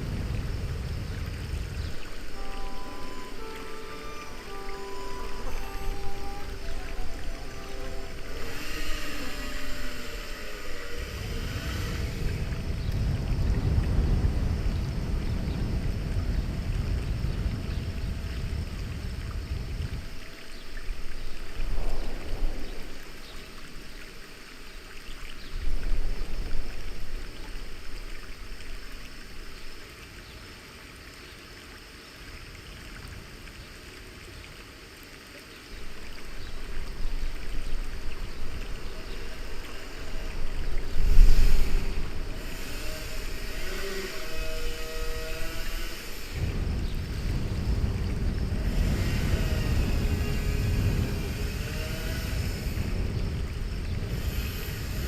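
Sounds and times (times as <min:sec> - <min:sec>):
water rushing and splashing: 0:00.0 - 0:55.0.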